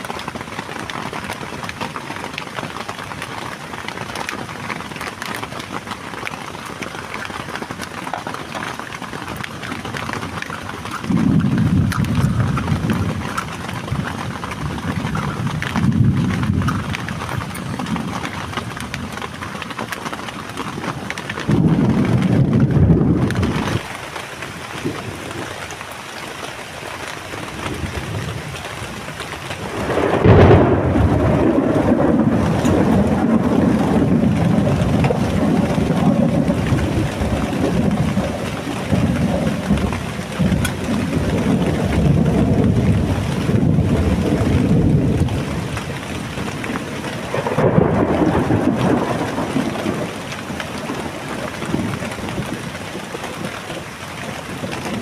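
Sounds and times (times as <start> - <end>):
heavy rain falling: 0.0 - 55.0
thunder rumbling: 2.2 - 24.1, 27.3 - 55.0.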